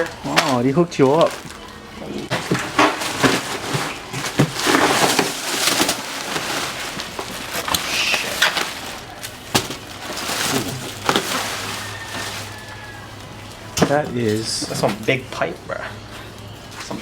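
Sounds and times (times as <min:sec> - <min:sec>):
sharp crackles and knocks: 0:00.0 - 0:14.0
packing material rustling: 0:00.0 - 0:14.8.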